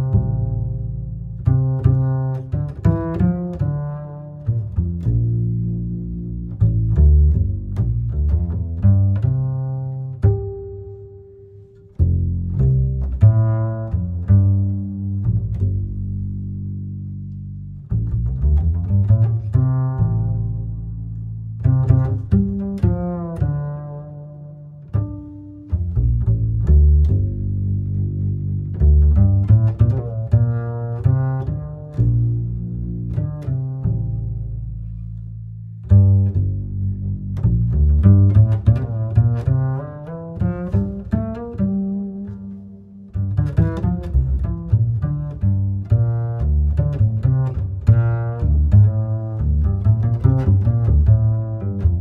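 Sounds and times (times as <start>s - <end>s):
low string notes: 0.0s - 52.0s.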